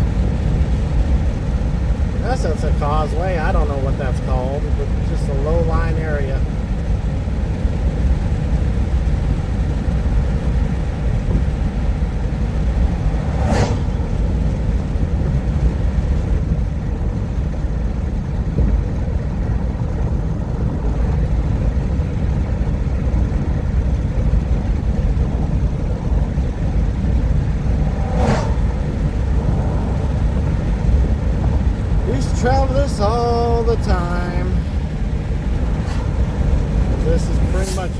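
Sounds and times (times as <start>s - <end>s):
car road noise rumble: 0.0s - 37.9s.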